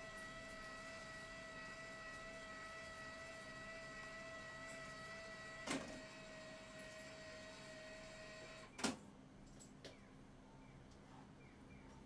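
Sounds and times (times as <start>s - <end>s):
faint high electrical whine: 0.0s - 10.1s.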